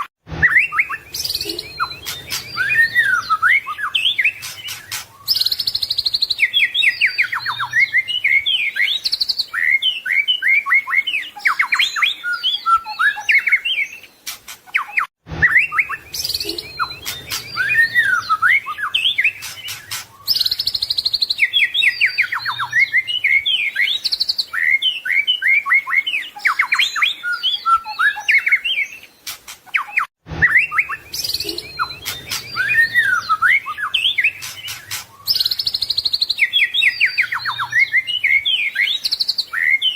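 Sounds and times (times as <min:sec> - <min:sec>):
bird singing whistles and trills: 0:00.4 - 0:39.9.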